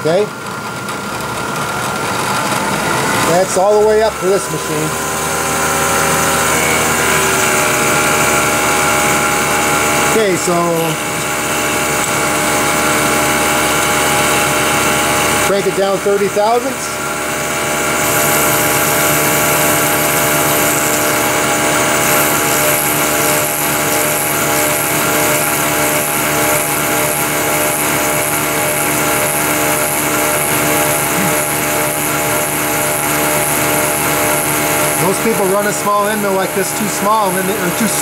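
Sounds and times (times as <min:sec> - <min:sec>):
milling machine spindle hum: 0:00.0 - 0:38.0
high cutting whine: 0:01.6 - 0:38.0.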